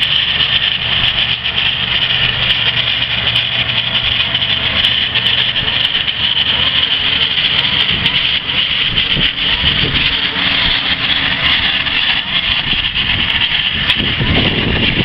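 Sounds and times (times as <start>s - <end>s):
low engine rumble: 0.0s - 15.0s
machinery hiss: 0.0s - 15.0s.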